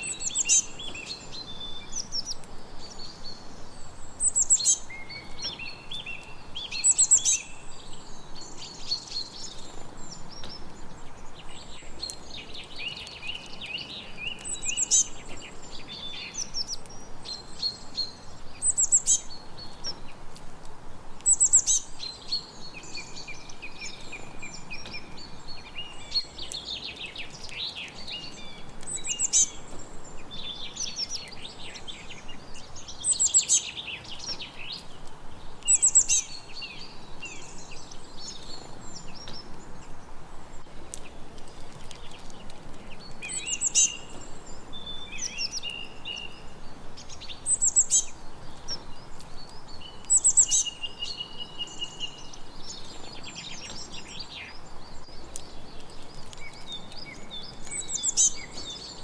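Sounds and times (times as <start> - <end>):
background hiss: 0.0 - 59.0
songbirds singing and chirping: 0.0 - 59.0.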